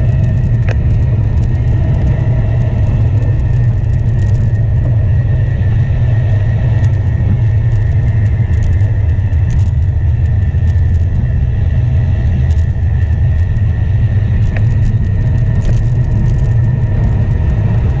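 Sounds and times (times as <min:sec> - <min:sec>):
road and tyre noise: 0:00.0 - 0:18.0
wind buffeting microphone: 0:00.0 - 0:18.0.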